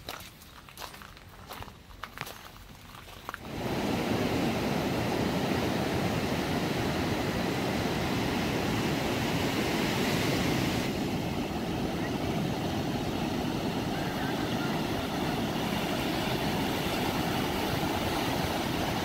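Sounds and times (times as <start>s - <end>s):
ocean surf on a beach: 3.4s - 19.0s.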